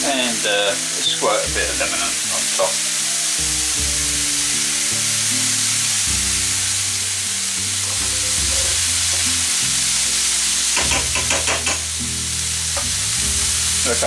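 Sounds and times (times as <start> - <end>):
food sizzling in a pan: 0.0 - 14.0
stirring strokes in a pan: 0.0 - 14.0.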